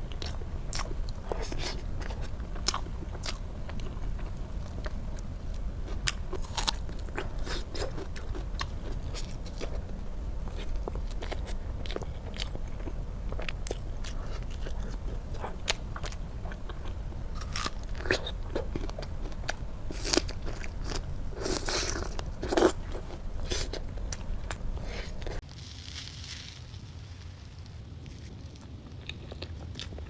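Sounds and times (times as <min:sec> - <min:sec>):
cake being chewed: 0:00.0 - 0:25.4, 0:28.0 - 0:30.0.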